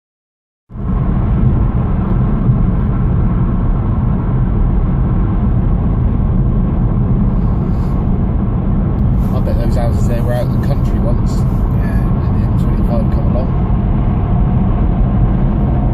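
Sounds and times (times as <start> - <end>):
car cabin road rumble: 0.7 - 15.9.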